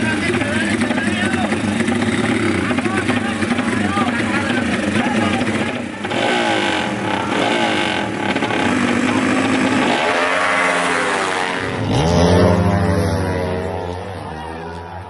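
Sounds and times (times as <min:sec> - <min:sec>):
motorcycle launching and passing: 0:00.0 - 0:15.0
motorcycles revving hard: 0:00.0 - 0:15.0.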